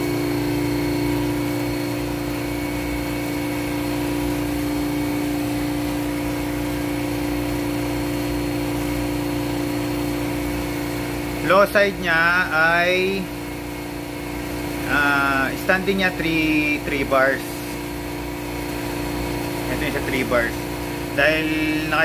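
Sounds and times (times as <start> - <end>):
refrigeration compressor humming: 0.0 - 22.0.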